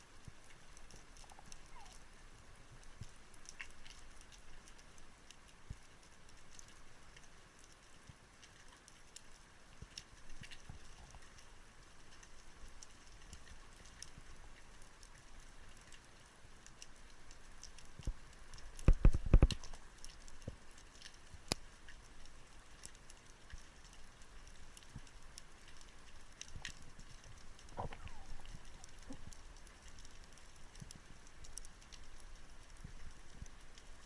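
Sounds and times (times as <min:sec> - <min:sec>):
faint crackle of small clicks: 0:00.0 - 0:34.0.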